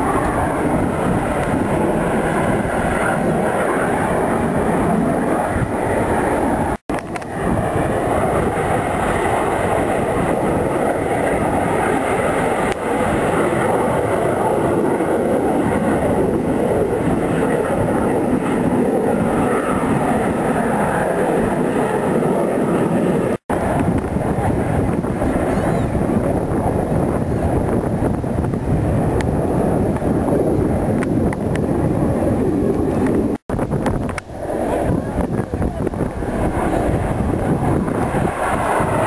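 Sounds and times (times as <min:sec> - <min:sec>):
jets roaring in flight: 0:00.0 - 0:39.0
wind on microphone: 0:00.0 - 0:39.0.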